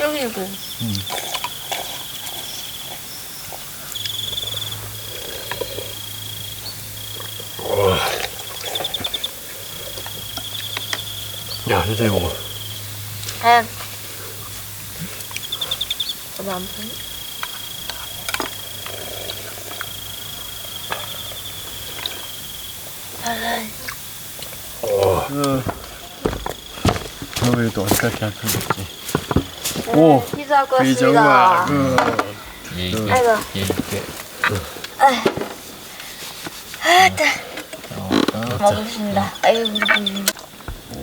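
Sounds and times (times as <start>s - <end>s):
insect trilling: 0.0s - 35.2s, 35.9s - 41.0s.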